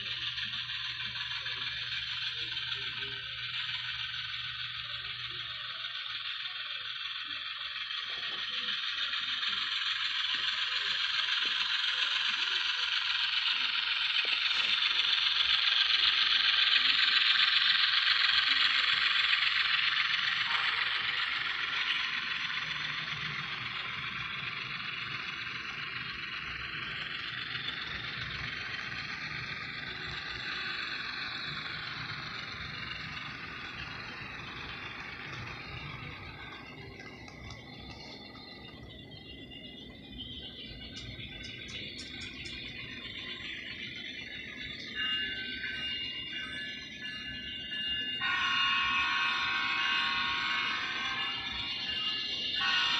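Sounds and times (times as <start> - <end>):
model train motor whirring: 0.0 - 52.9
wheels clicking over track joints: 0.0 - 52.9.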